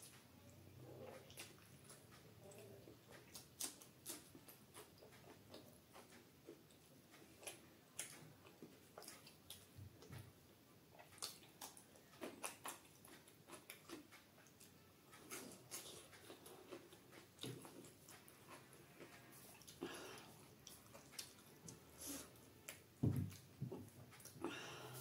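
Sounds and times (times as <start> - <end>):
person chewing with mouth clicks: 0.9 - 10.2, 11.0 - 25.0.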